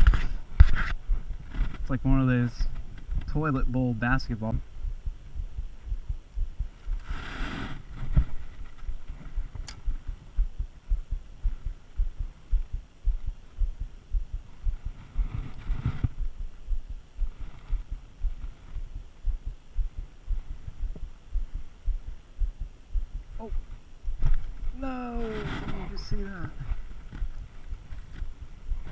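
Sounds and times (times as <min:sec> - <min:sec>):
low thumping on microphone: 0:00.0 - 0:28.9.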